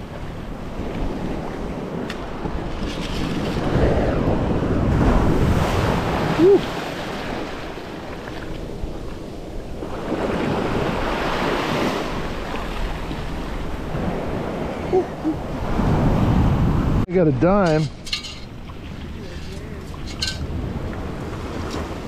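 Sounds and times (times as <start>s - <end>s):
wind on microphone: 0.0s - 17.1s, 18.0s - 22.0s
surf washing over sand: 0.0s - 22.0s.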